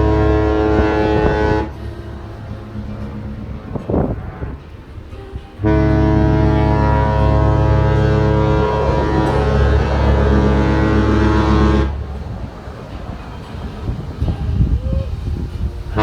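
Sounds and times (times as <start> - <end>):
deep ship horn blast: 0.0 - 16.0.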